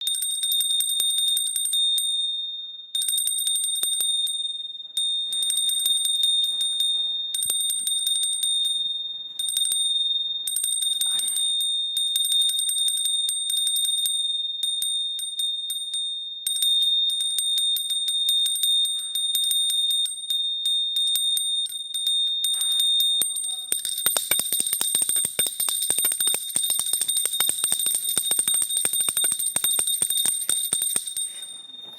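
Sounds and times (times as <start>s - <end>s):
small hand bell ringing rapidly: 0.0s - 2.4s, 3.0s - 31.9s.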